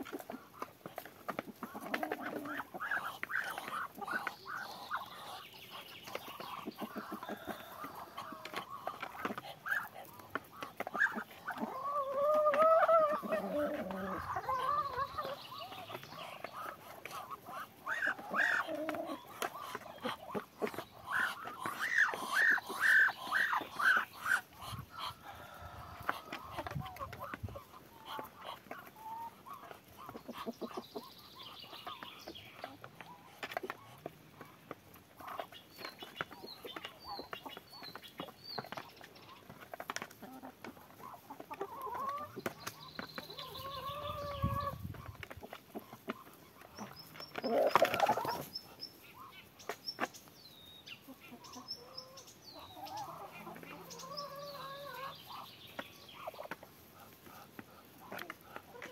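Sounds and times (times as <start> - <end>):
hen clucking: 0.0 - 58.9
rustle: 0.0 - 58.9.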